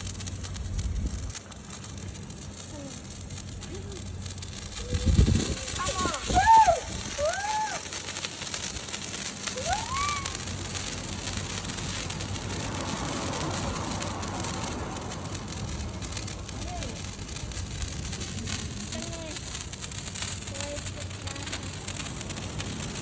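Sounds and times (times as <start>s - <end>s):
fireworks sparks hissing: 0.0s - 23.0s.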